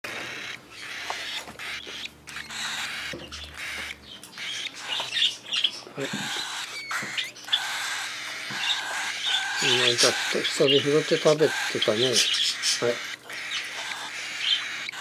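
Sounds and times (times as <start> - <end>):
cockatiel raspy begging calls: 0.2 - 15.0.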